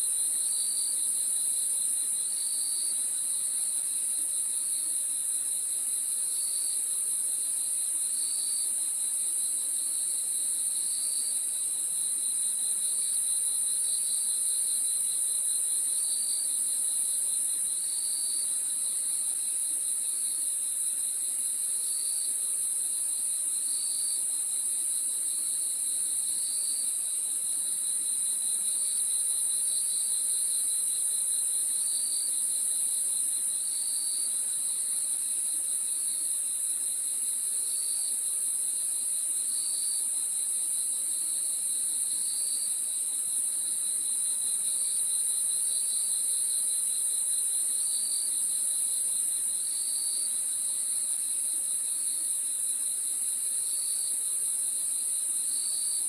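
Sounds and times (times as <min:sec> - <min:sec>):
high-pitched cricket trill: 0:00.0 - 0:56.0.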